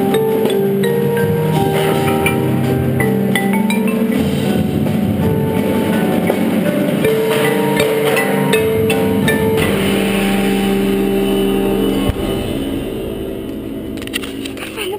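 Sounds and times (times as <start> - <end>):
marimba: 0.0 - 14.9
percussion ensemble: 0.0 - 14.9.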